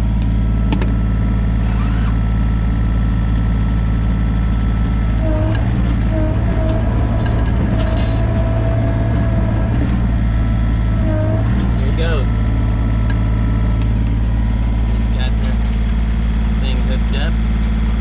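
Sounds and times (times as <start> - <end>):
diesel engine idling: 0.0 - 18.0
high whine: 0.0 - 18.0.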